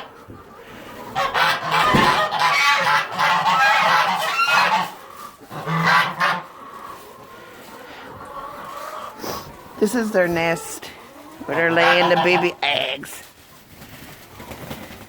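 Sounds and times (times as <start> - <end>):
fowl calling harshly: 0.0 - 13.3.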